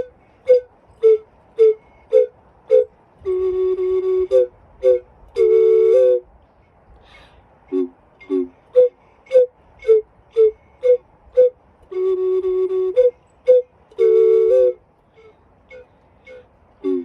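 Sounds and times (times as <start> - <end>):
ocarina playing slow melody: 0.0 - 6.3, 7.7 - 17.0.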